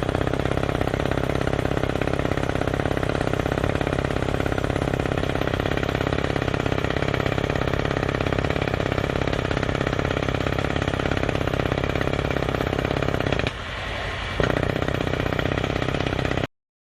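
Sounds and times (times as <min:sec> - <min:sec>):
rock drill hammering: 0:00.0 - 0:13.6, 0:14.4 - 0:16.5.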